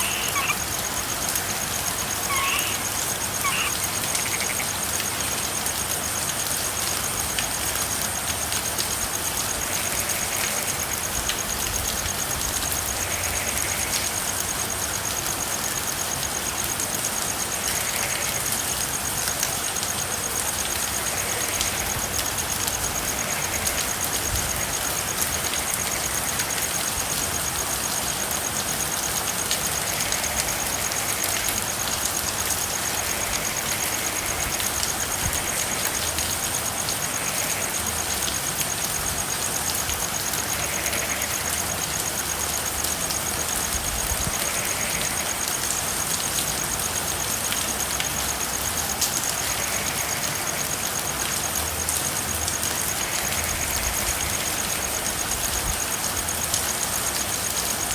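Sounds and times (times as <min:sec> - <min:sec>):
soft frog calls: 0:00.0 - 0:57.9
steady rain falling: 0:00.0 - 0:57.9.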